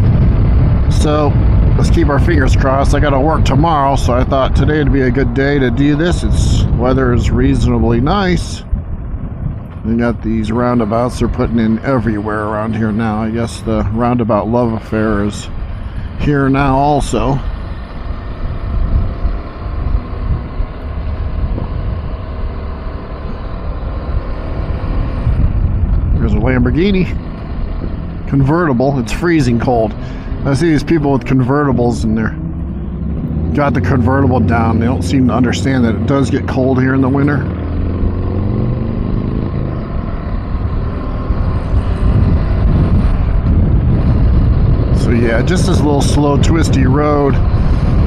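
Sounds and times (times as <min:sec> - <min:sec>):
motorcycle engine running: 0:00.0 - 0:48.0
road rumble: 0:00.0 - 0:48.0
wind rush: 0:00.0 - 0:48.0.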